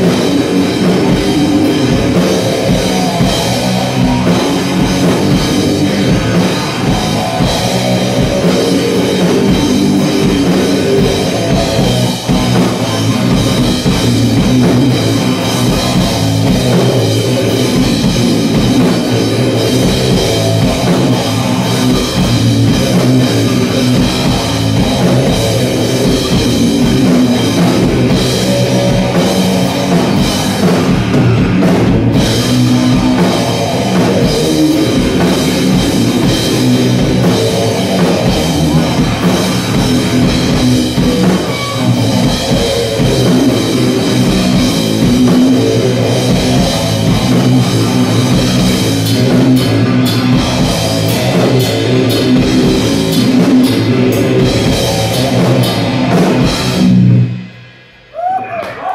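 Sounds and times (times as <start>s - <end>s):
drum kit beat: 0.0s - 58.9s
electric guitar riffs: 0.0s - 58.9s.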